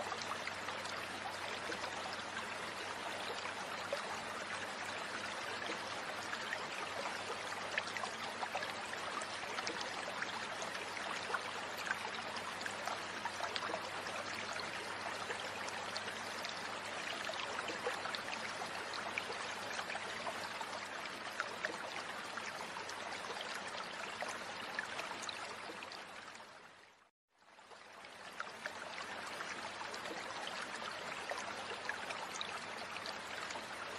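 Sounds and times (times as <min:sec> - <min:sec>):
stream running over stones: 0:00.0 - 0:33.9.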